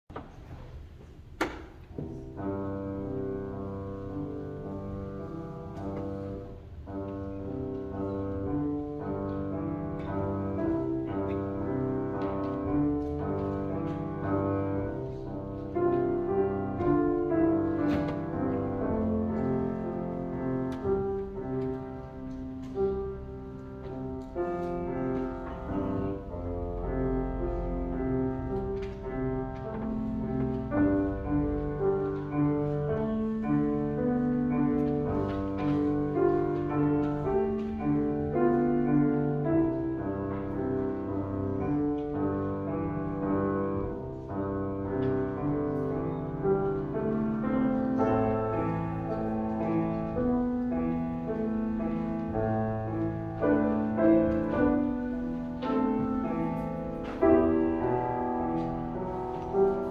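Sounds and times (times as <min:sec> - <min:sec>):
grand piano playing: 0:00.1 - 0:59.9.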